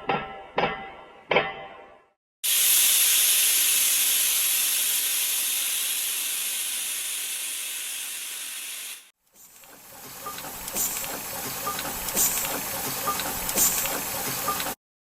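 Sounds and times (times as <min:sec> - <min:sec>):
steam venting hiss: 0:02.4 - 0:14.6.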